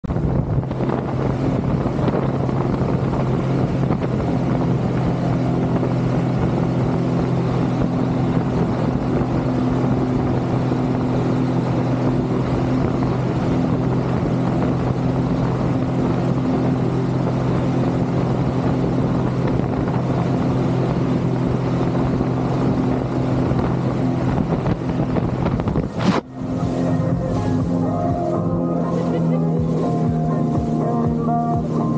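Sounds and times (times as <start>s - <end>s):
jet ski engine hum: 0.0s - 31.9s
wind buffeting microphone: 0.0s - 31.9s
rush of spray: 0.6s - 31.9s.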